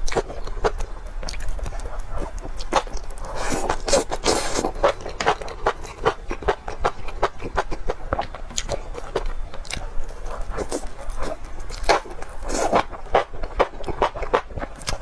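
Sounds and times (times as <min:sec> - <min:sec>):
person chewing and crunching: 0:00.0 - 0:15.0.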